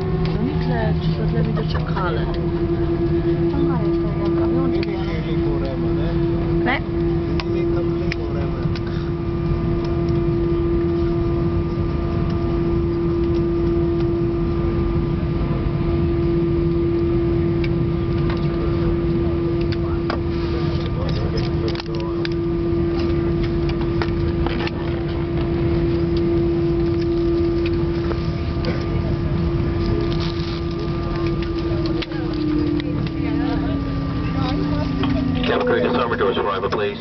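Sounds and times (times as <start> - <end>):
aircraft cabin rumble: 0.0 - 37.0
constant hum: 0.0 - 37.0.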